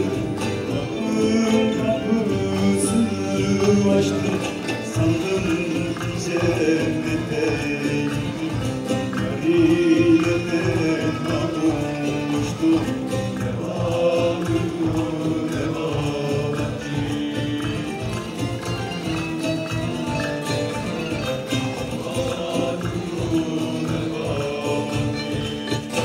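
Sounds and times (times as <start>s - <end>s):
man singing: 0.0s - 19.3s, 21.6s - 26.0s
long-necked lute: 0.0s - 26.0s
steady percussion beat: 0.0s - 26.0s.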